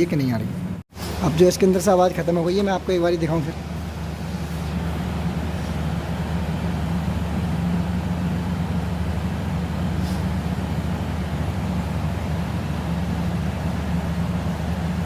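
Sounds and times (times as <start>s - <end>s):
motorcycle engine running steadily: 2.6s - 15.0s.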